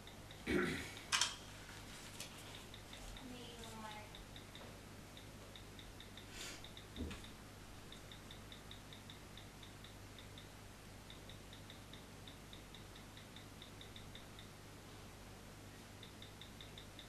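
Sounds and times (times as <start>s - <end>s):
faint rapid ticking: 0.0s - 1.2s, 2.4s - 14.7s, 15.8s - 17.0s
low steady hum: 0.0s - 17.0s.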